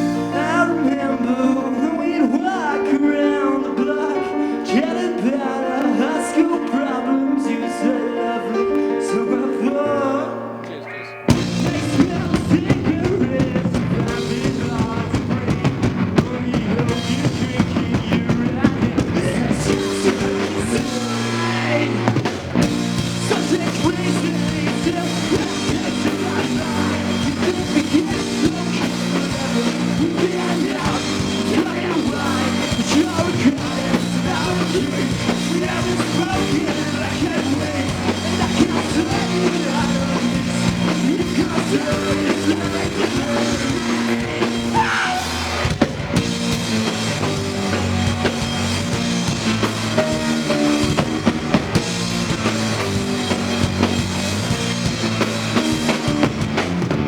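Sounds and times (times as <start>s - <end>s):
live rock band playing: 0.0s - 10.0s, 10.6s - 57.0s.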